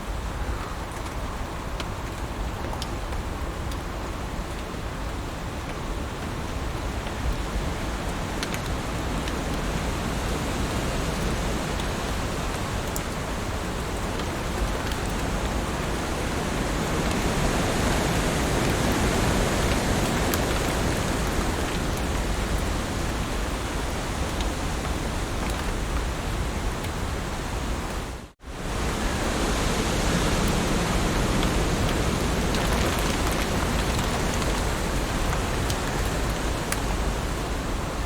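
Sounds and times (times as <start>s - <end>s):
heavy rain on leaves: 0.0s - 38.0s.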